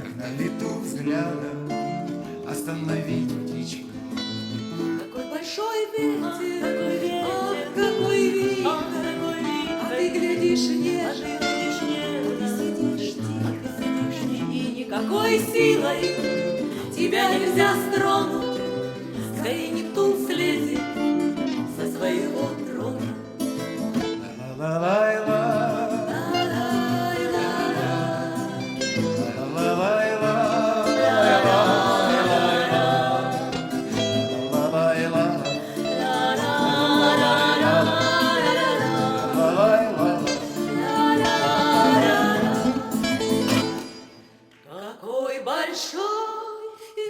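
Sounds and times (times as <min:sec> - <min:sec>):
acoustic guitar: 0:00.0 - 0:47.0
vocal quartet singing in harmony: 0:00.0 - 0:47.0.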